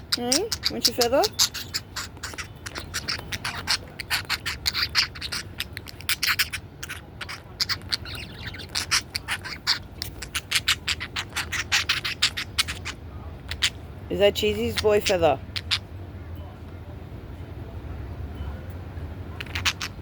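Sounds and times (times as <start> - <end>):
budgie chattering: 0.0 - 16.0, 19.3 - 20.0.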